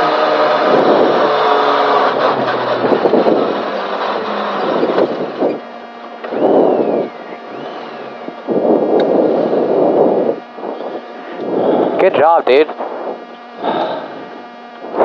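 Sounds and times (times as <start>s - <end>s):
car engine inside cabin: 0.0s - 15.0s.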